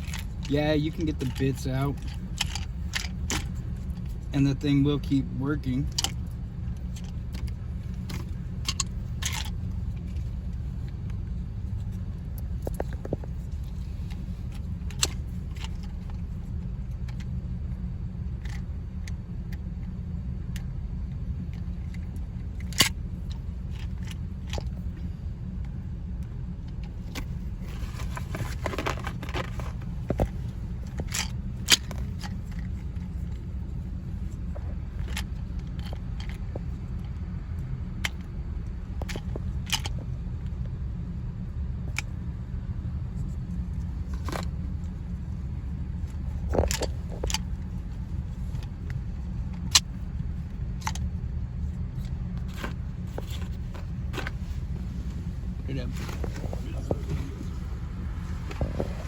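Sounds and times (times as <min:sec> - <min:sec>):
steady low rumble: 0:00.0 - 0:59.0.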